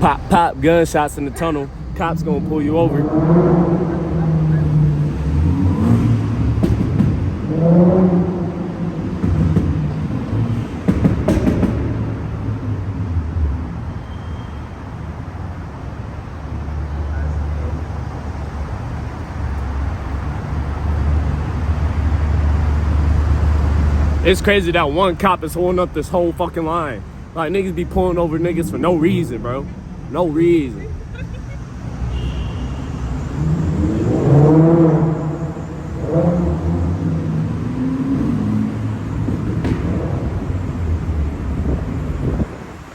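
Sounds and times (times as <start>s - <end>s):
car engine rumble: 0.0s - 14.1s, 14.8s - 42.9s
road noise: 0.0s - 42.9s.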